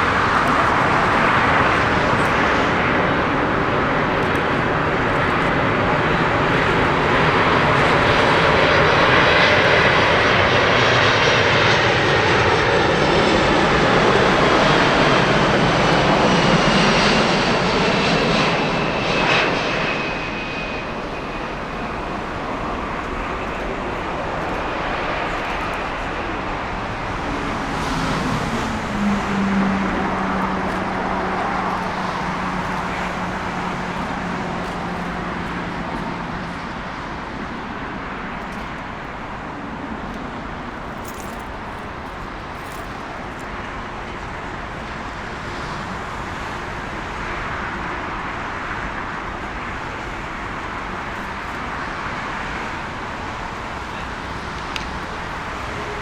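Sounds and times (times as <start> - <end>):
jet airliner passing: 0.0 - 56.0.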